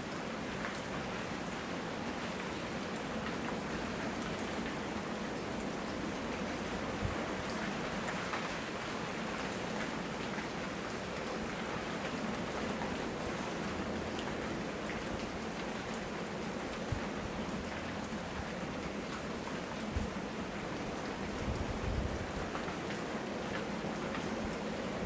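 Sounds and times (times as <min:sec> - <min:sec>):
rain pattering on surfaces: 0:00.0 - 0:25.0.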